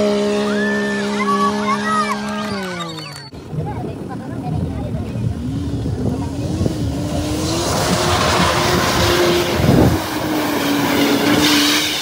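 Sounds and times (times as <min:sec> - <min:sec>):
engine revving high: 0:00.0 - 0:03.3, 0:05.2 - 0:12.0.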